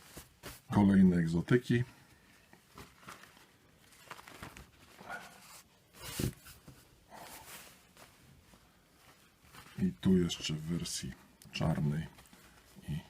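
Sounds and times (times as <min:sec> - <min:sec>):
napkins rustling: 0:00.0 - 0:01.0, 0:02.1 - 0:13.0.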